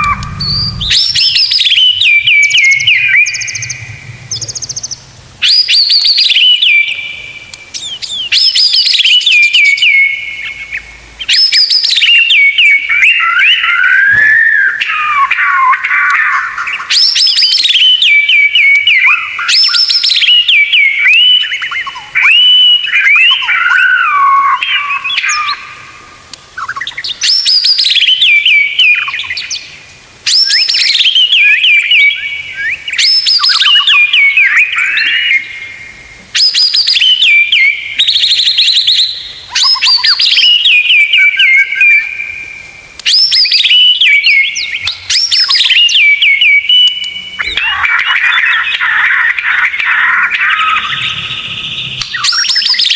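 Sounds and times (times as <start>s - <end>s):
songbird whistled song: 0.0s - 52.9s.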